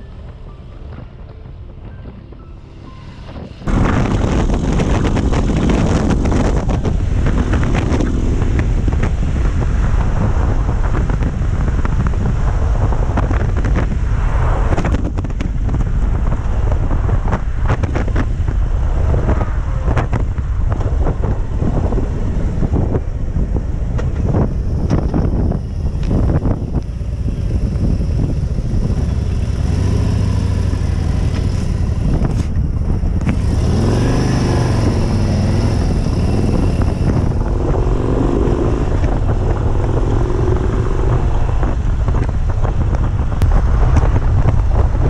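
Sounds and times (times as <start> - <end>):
motorcycle engine rumble: 0.0 - 45.0
wind buffeting microphone: 0.0 - 45.0.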